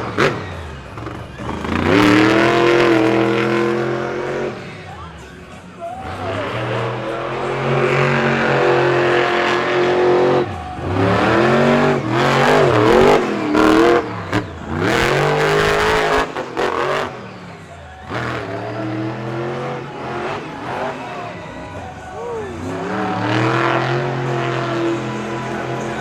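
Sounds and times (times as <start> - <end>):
truck engine revving hard: 0.0 - 26.0.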